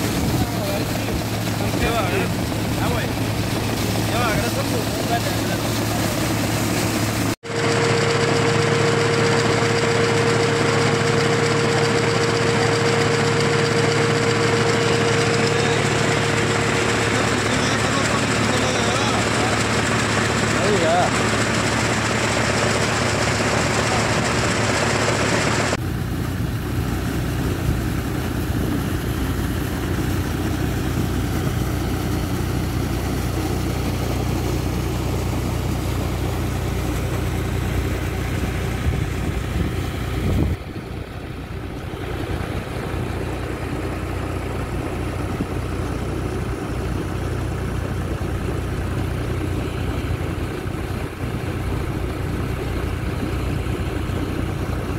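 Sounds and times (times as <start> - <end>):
engine running steadily: 0.0 - 54.9.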